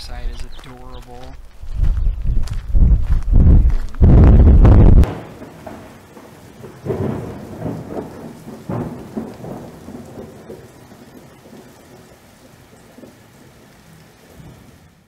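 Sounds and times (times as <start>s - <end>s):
steady rain: 0.0s - 15.0s
rolling thunder: 2.1s - 14.7s.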